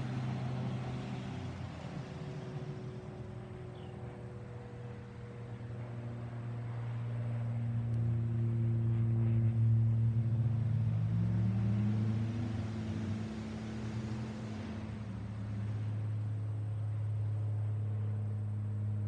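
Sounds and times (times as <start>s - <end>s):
propeller plane droning overhead: 0.0s - 19.0s.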